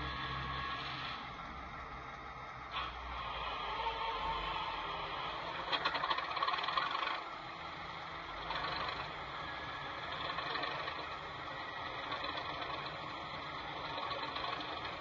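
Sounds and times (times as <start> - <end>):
diesel locomotive engine: 0.0 - 15.0.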